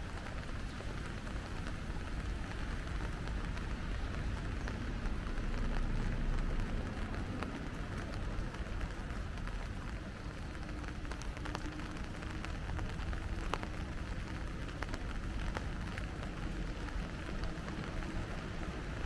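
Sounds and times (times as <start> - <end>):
sharp drip ticks: 0.0 - 19.0
steady rain falling: 0.0 - 19.0.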